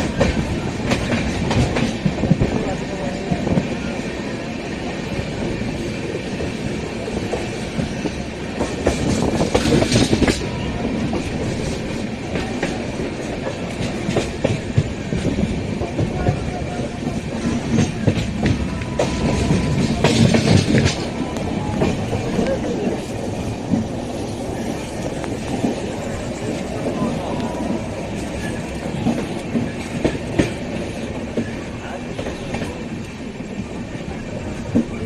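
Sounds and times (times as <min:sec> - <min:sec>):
train wheels clacking on rail joints: 0:00.0 - 0:35.0.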